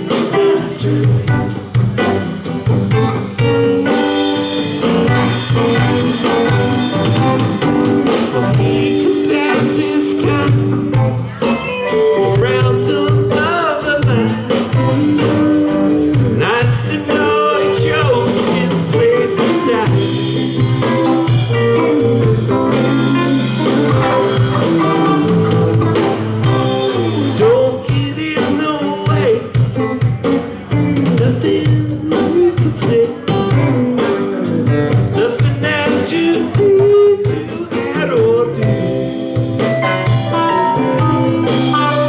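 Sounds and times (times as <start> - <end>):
rock band playing blues-rock: 0.0 - 42.0
sliding lead guitar: 0.0 - 42.0.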